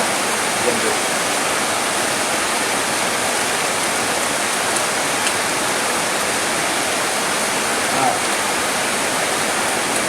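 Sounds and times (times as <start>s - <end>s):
rain hiss: 0.0s - 10.0s.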